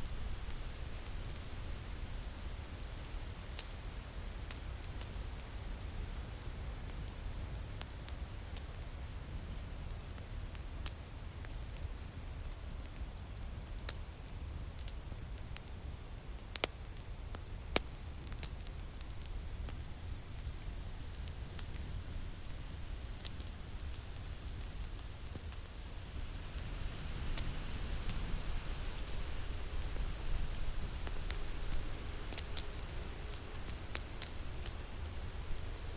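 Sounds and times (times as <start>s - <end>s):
fire crackling and popping: 0.0s - 35.9s
low rumble of wind: 0.0s - 35.9s.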